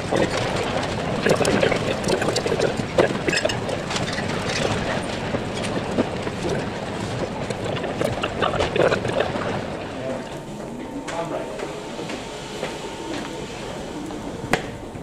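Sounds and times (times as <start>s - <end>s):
rumbling murmur: 0.0s - 15.0s.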